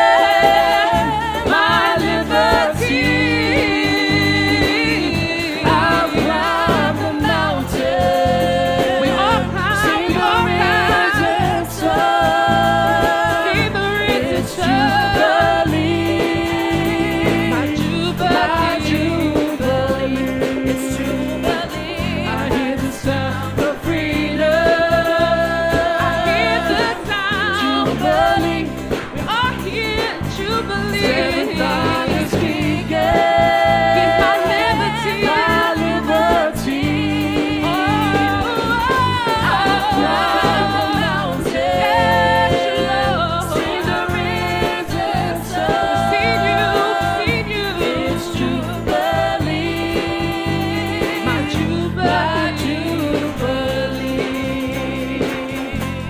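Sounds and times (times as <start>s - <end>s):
band accompaniment: 0.0s - 56.0s
gospel choir singing: 0.0s - 56.0s.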